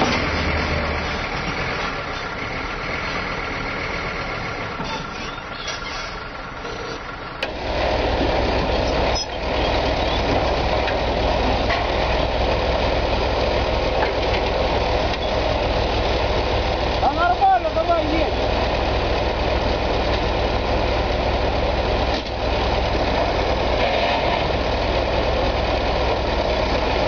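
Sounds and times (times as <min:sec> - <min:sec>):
tractor engine low hum: 0:00.0 - 0:27.0
truck engine running: 0:00.0 - 0:27.0.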